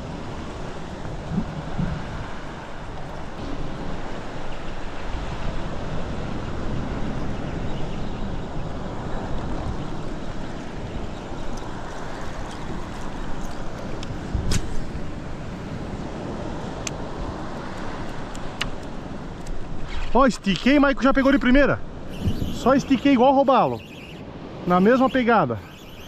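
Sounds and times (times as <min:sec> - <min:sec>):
wind on the microphone: 0:00.0 - 0:23.2.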